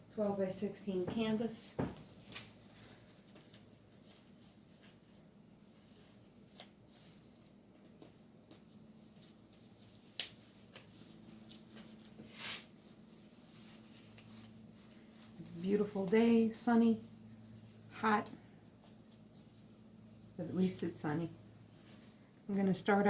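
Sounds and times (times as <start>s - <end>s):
low steady hum: 0.0s - 23.0s
soft rustle: 0.9s - 22.4s.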